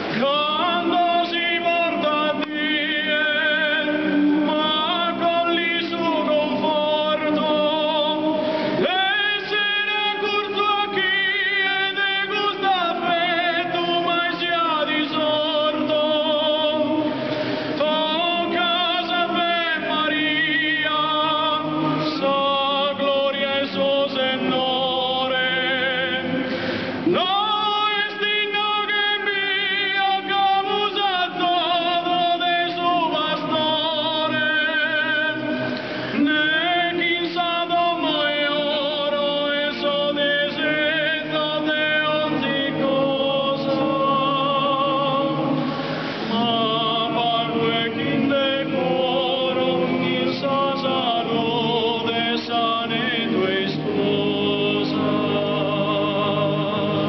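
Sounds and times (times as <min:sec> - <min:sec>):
folk choir singing in harmony: 0:00.0 - 0:57.0.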